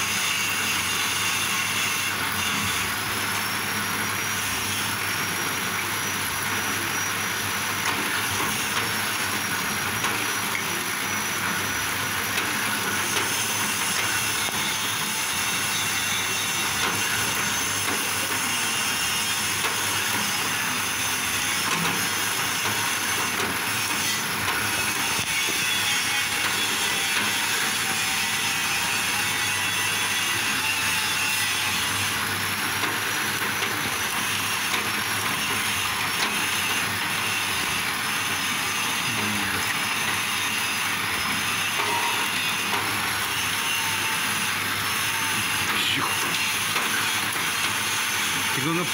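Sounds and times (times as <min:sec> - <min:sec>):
bamboo shaving machine running: 0:00.0 - 0:48.9.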